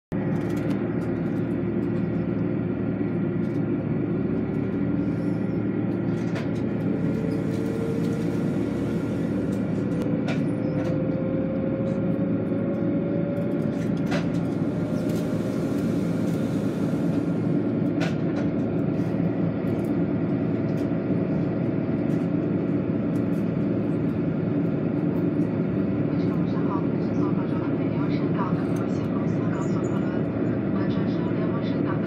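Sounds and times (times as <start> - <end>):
vehicle running noise: 0.1 - 27.3.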